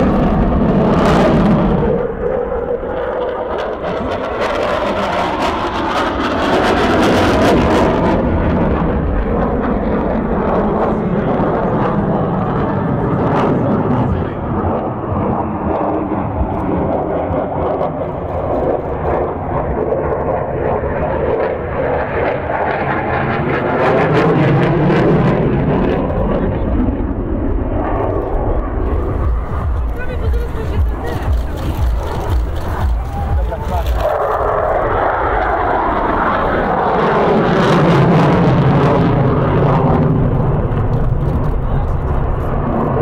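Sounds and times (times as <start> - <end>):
jet rumbling overhead: 0.0 - 43.0.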